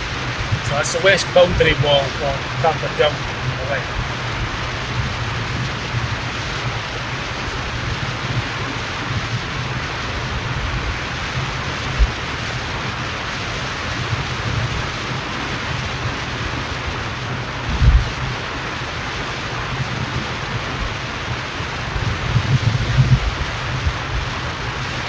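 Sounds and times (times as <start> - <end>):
car road and wind noise: 0.0 - 25.0.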